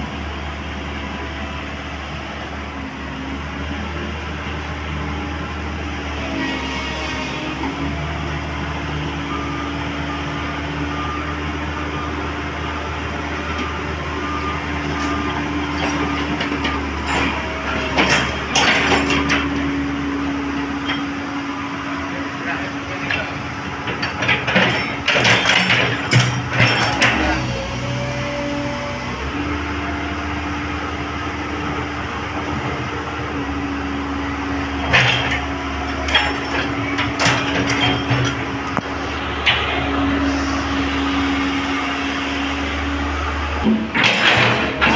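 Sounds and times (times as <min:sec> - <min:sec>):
excavator diesel engine droning: 0:00.0 - 0:44.9.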